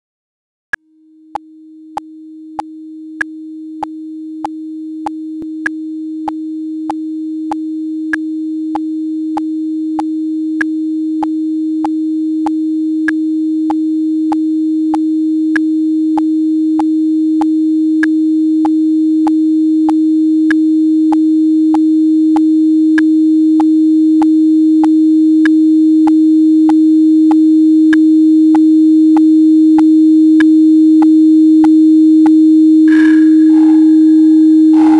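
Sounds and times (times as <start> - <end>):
synthesized sine tone: 0.7 - 34.9.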